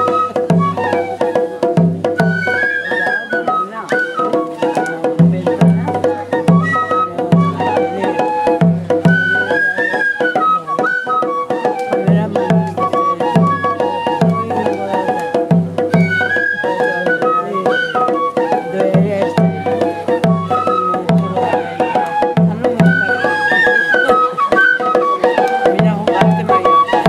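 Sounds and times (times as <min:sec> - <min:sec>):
taiko drum beats: 0:00.0 - 0:27.0
transverse flutes playing melody: 0:00.0 - 0:27.0.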